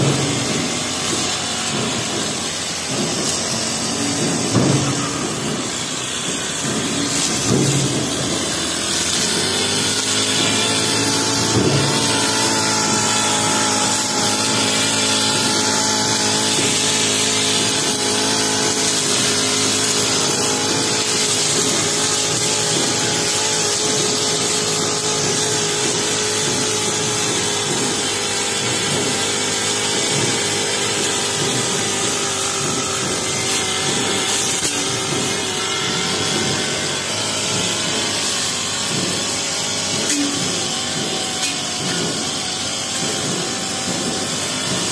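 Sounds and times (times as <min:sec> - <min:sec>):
blade striking stones: 0:00.0 - 0:44.9
brush cutter cutting grass: 0:00.0 - 0:44.9.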